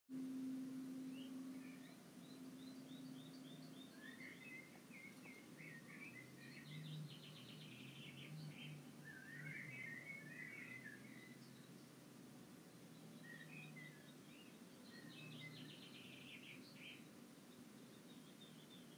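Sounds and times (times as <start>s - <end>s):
faint low hum: 0.1s - 18.9s
faint songbirds singing: 0.2s - 18.9s.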